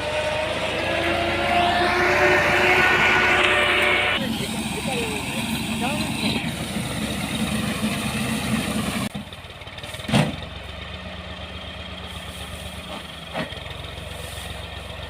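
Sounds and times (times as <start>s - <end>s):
farm machinery engine running: 0.0s - 15.0s.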